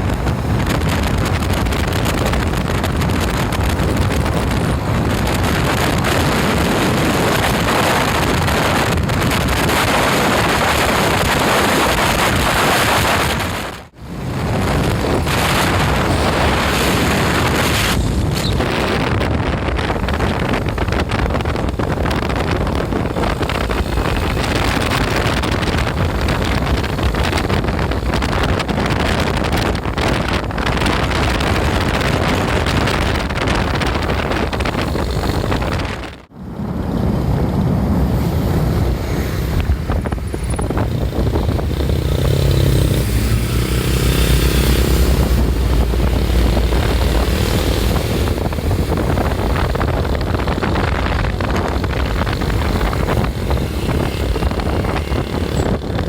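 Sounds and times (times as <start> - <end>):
road and engine noise: 0.0 - 56.0
wind buffeting microphone: 0.0 - 56.0.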